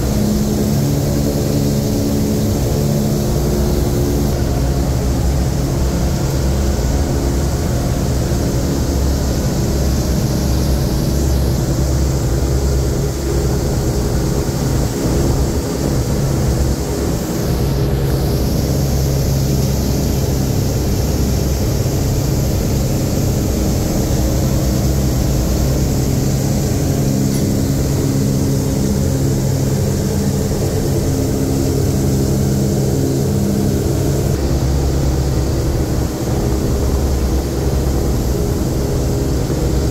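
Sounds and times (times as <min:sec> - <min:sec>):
airflow hiss: 0:00.0 - 0:39.9
propeller engines droning: 0:00.0 - 0:39.9.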